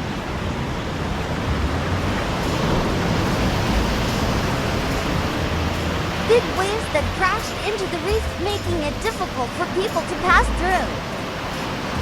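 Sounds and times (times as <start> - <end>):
ocean waves breaking on rocks: 0.0 - 12.0.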